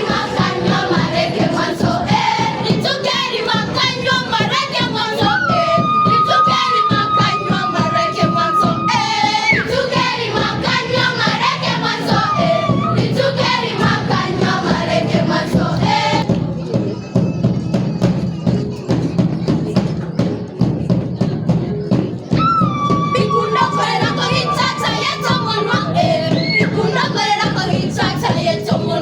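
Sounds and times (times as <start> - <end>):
voices singing over a beat: 0.0 - 29.0.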